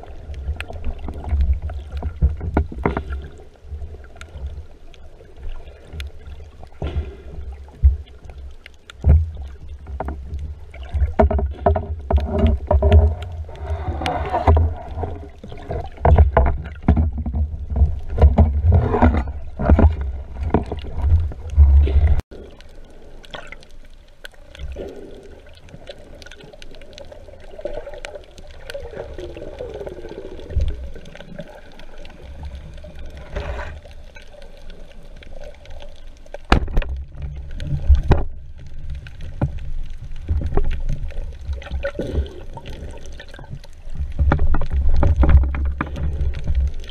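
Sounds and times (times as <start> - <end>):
water sloshing: 0.0 - 22.5, 23.2 - 46.9
underwater ambience: 0.0 - 46.9.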